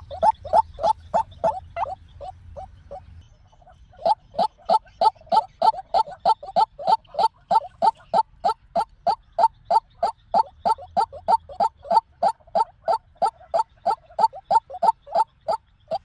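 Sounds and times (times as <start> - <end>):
bird calling with harsh notes: 0.0 - 16.0.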